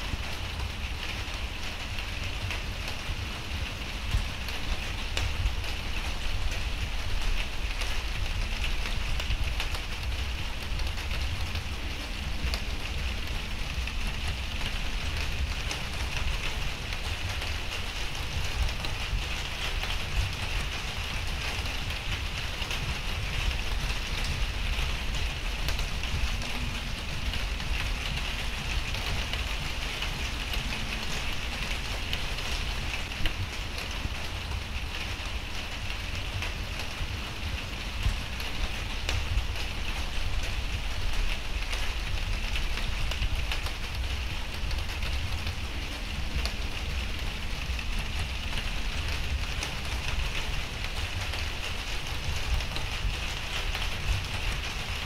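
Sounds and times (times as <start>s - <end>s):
rain drop ticks: 0.0s - 55.0s
rain hiss: 0.0s - 55.0s
low rumble: 5.2s - 51.4s.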